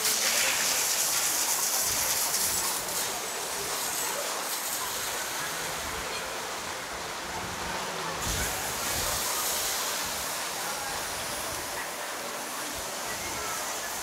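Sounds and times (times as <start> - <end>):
city street ambience: 0.0 - 14.0.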